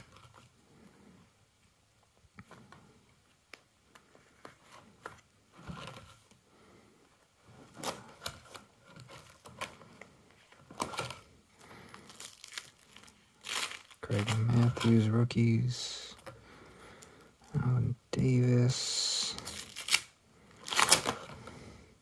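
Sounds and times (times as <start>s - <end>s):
plastic sleeves rustling: 0.0s - 17.6s, 18.8s - 22.0s.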